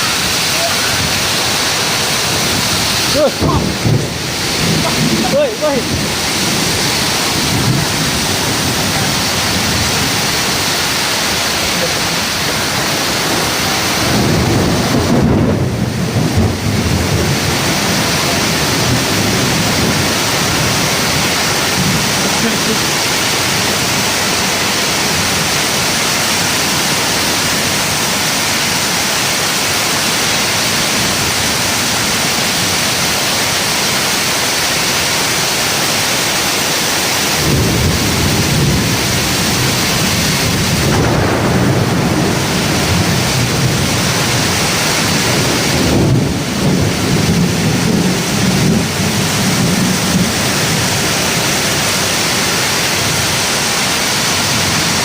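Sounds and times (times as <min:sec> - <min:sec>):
wind gusts rumbling: 0:00.0 - 0:34.3, 0:35.8 - 0:55.0
heavy rain hissing: 0:00.0 - 0:55.0.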